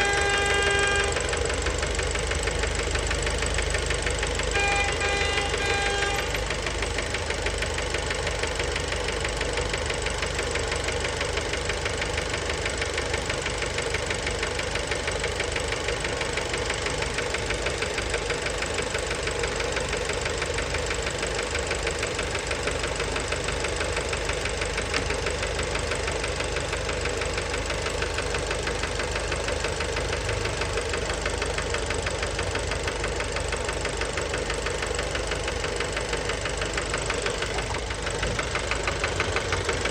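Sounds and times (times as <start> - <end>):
car engine knocking rattle: 0.0 - 39.9.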